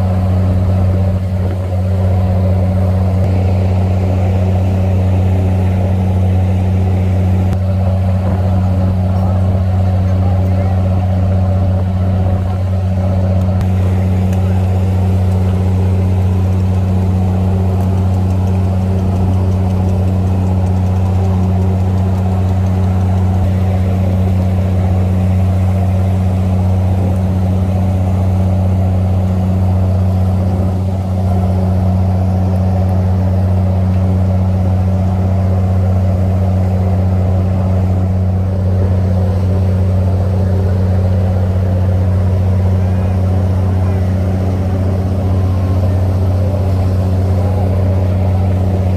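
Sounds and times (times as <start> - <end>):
boat engine humming: 0.0 - 48.9.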